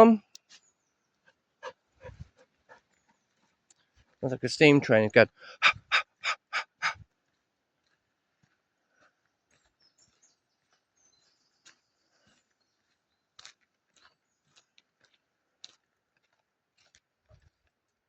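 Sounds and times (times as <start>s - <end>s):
faint birds chirping: 0.0s - 16.2s.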